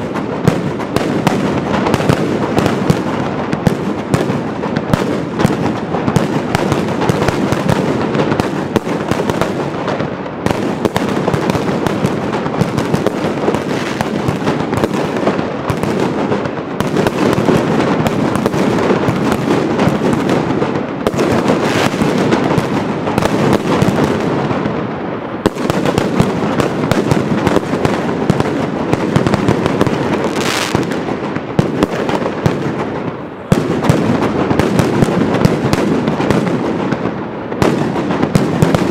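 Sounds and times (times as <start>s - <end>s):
firecracker barrage: 0.0s - 38.9s.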